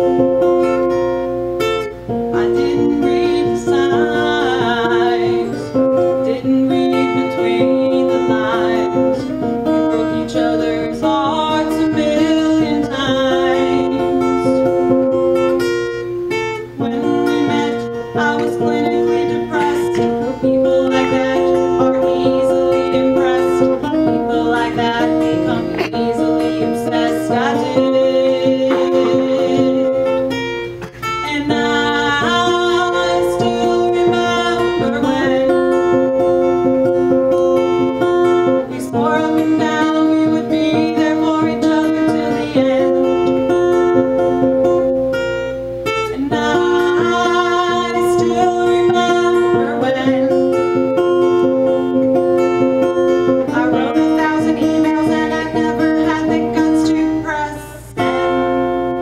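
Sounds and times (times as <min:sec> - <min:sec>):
acoustic guitar strumming: 0:00.0 - 0:59.0
woman singing: 0:02.1 - 0:15.7, 0:16.4 - 0:45.0, 0:45.9 - 0:59.0.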